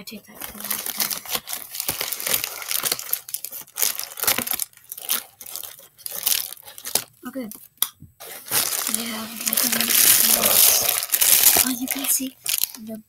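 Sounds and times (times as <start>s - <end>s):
plastic bag crinkling: 0.3s - 13.0s.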